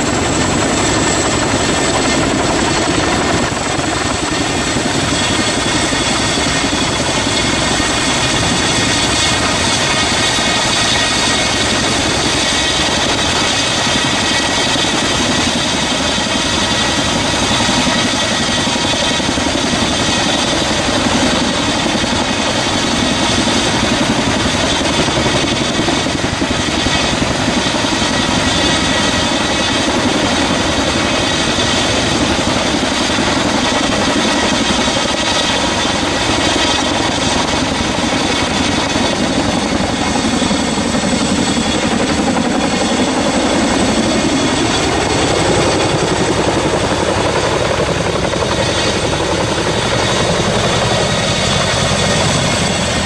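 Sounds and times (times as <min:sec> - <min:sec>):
helicopter rotor and engine noise: 0:00.0 - 0:53.0
high turbine whine: 0:00.0 - 0:53.0.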